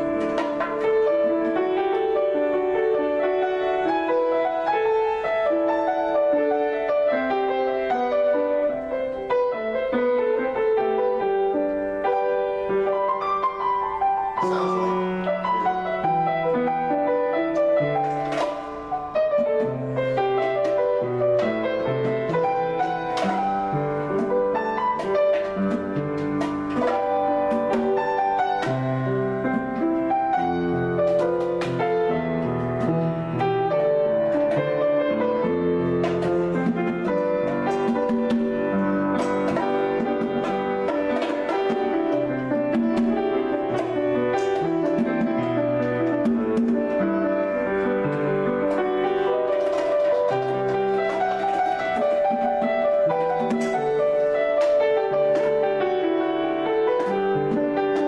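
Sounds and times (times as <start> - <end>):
grand piano improvisation: 0.0 - 58.0.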